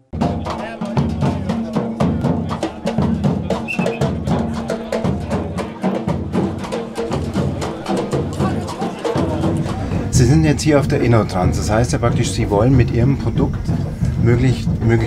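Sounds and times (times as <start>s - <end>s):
bass drums beating: 0.0s - 15.0s.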